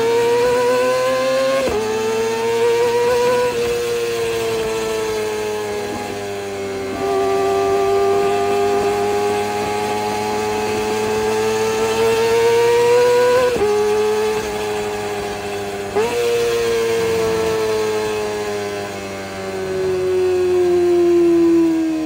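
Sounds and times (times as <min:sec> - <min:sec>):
high-pitched motorcycle engine: 0:00.0 - 0:22.0.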